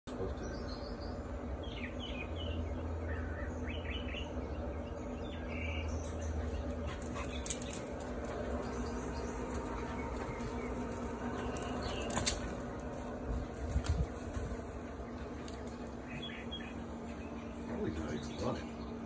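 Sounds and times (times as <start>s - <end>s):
birds chirping: 0.1s - 19.0s
steady low hum: 0.1s - 19.0s.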